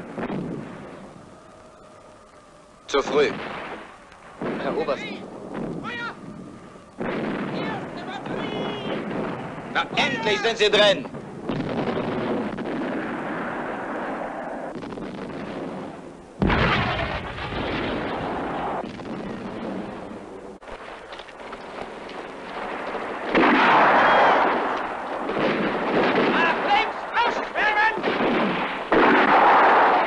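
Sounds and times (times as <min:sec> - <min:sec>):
heavy explosion blast: 0:00.0 - 0:01.2, 0:03.0 - 0:20.6, 0:21.7 - 0:30.0
rumble of shelling: 0:00.0 - 0:30.0
dense battle noise: 0:02.9 - 0:20.6, 0:21.4 - 0:30.0.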